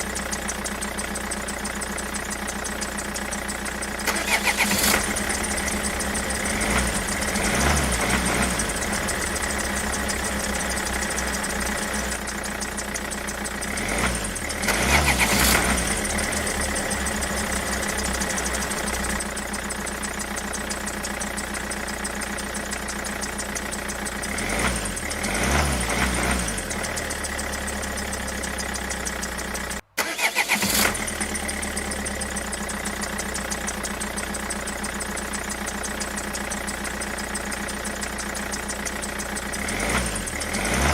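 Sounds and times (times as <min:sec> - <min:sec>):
engine chugging: 0:00.0 - 0:40.9
engine idling: 0:00.0 - 0:40.9.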